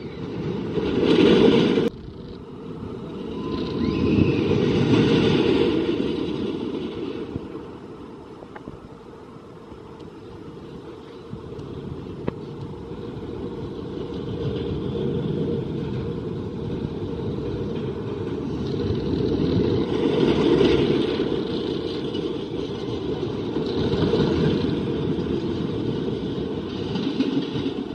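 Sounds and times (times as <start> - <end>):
roller coaster train rumbling: 0.0 - 27.9.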